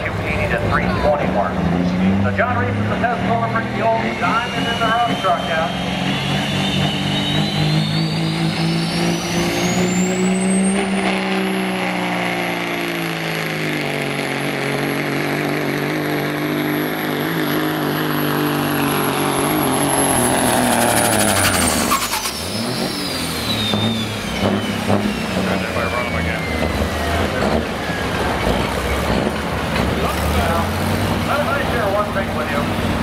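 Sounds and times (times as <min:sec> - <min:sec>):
diesel truck engine at full throttle: 0:00.0 - 0:33.0
turbocharger whine: 0:00.0 - 0:33.0.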